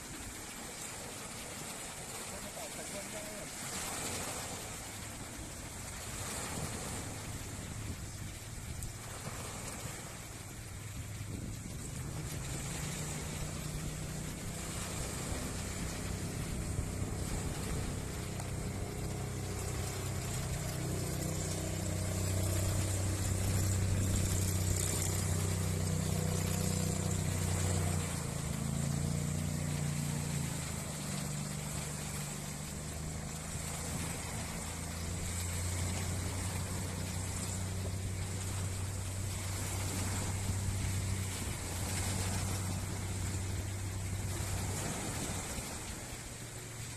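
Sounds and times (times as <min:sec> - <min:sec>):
speedboat engine drone: 0:00.0 - 0:46.9.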